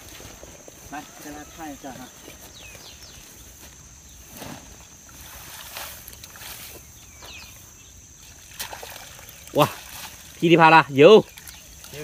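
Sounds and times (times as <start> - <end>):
footsteps through wet grass: 0.0 - 12.0.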